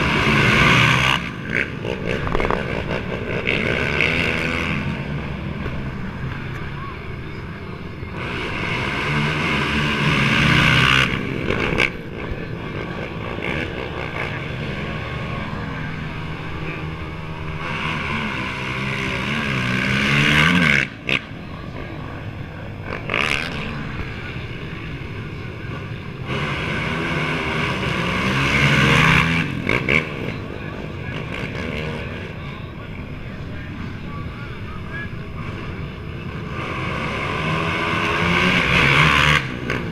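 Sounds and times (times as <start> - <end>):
quad engines accelerating past: 0.0 - 39.9.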